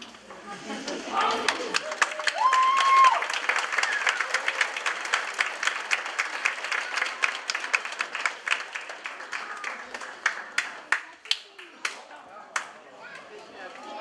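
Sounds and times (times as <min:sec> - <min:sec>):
audience applauding: 0:01.2 - 0:12.7.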